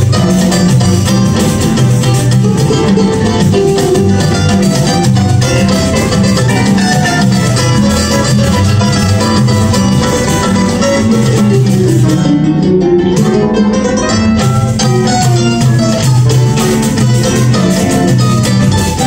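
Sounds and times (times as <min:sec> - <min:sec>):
acoustic plucked strings ensemble: 0:00.0 - 0:19.0.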